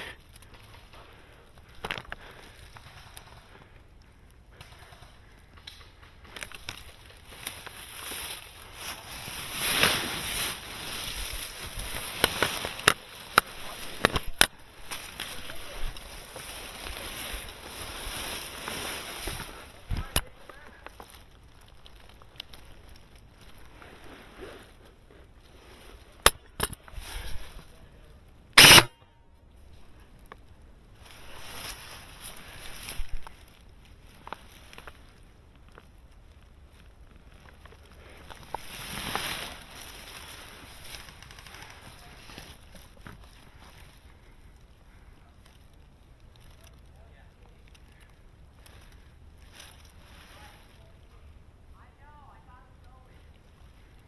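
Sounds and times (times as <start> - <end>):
dry leaves rustling and crunching: 6.2 - 28.2, 30.9 - 52.4.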